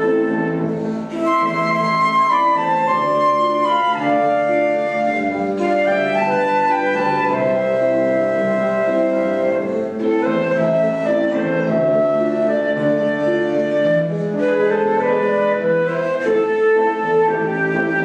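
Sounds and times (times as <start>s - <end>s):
instrumental duet music: 0.0s - 18.0s.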